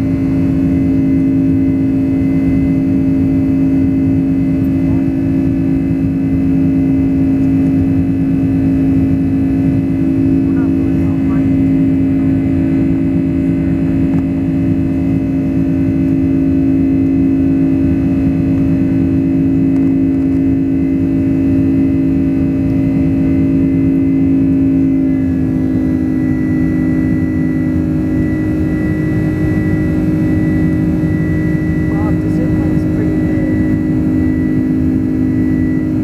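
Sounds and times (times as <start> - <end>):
high engine whine: 0.0 - 36.0
jet engine hum in cabin: 0.0 - 36.0.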